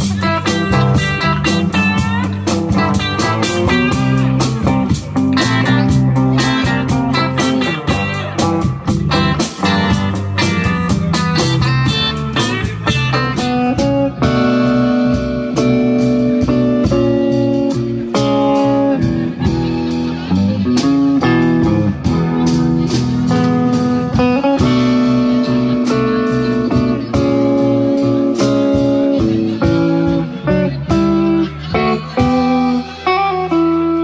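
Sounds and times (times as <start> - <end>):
bass guitar: 0.0 - 34.0
drum kit steady beat: 0.0 - 34.0
electric guitars: 0.0 - 34.0.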